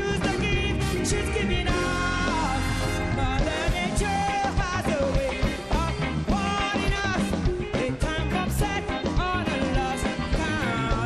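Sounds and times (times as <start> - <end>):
live band playing upbeat song: 0.0 - 11.0.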